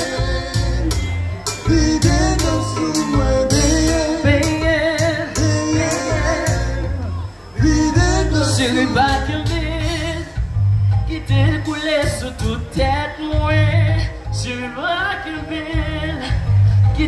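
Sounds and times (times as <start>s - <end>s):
man singing into a microphone: 0.0s - 1.0s, 1.6s - 10.4s, 11.0s - 17.0s
amplified backing music with bass: 0.0s - 17.0s.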